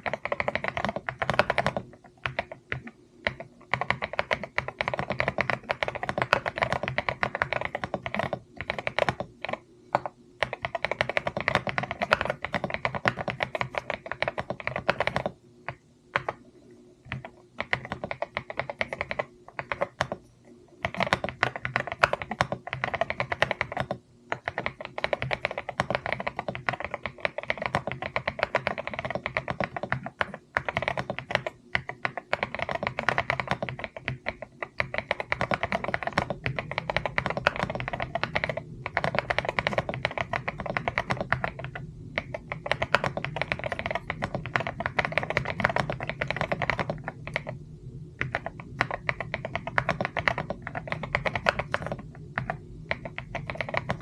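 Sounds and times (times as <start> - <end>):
mechanical keyboard typing: 0.0 - 47.6, 48.2 - 54.0.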